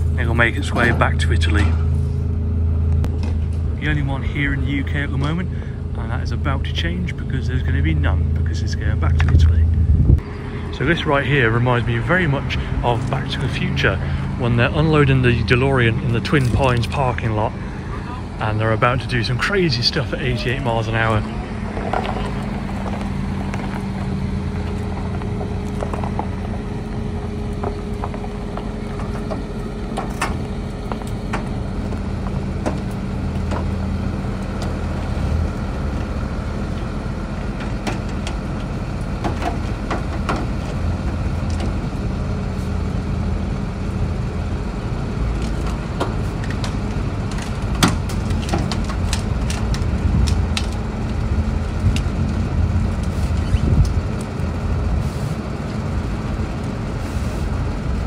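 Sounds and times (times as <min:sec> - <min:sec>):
electric car low hum: 0:00.0 - 0:58.0.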